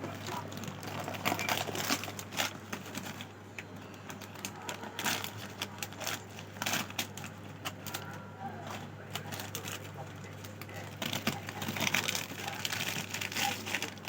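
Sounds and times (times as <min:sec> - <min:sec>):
plastic packets crinkling: 0:00.0 - 0:14.0.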